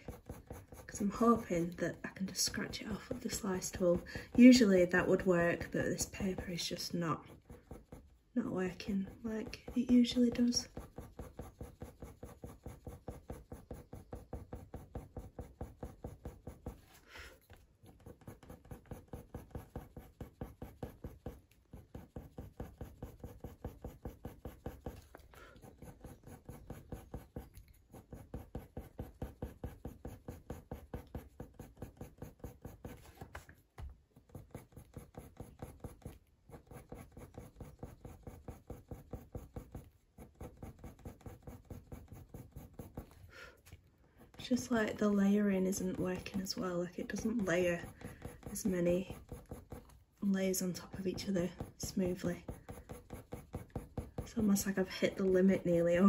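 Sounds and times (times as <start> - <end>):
pencil scratching on paper: 0.0 - 56.0.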